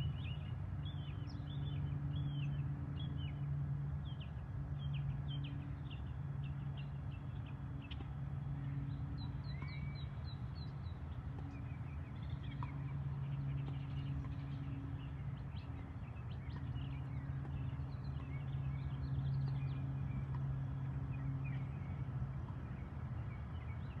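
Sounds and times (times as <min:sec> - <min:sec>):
steady low hum: 0:00.0 - 0:24.0
small birds chirping: 0:04.0 - 0:24.0.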